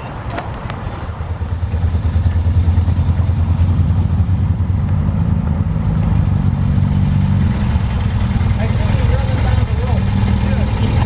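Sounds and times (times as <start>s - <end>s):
car engine rumbling past: 1.0s - 11.0s.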